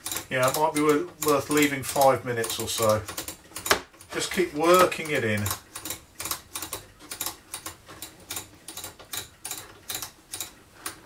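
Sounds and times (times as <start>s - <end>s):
rotary switch clicking: 0.0s - 11.0s.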